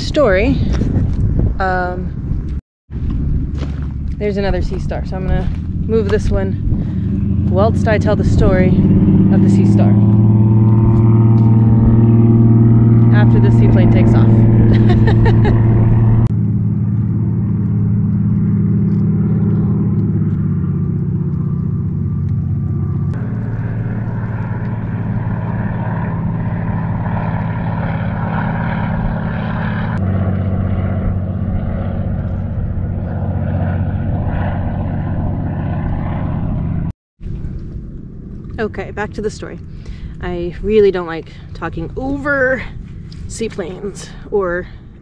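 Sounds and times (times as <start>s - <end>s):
propeller plane engine droning: 0.0s - 45.0s.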